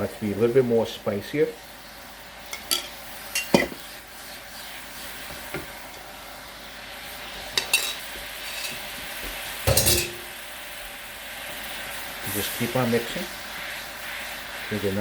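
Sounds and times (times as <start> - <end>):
sauce sizzling in a pan: 0.0 - 15.0.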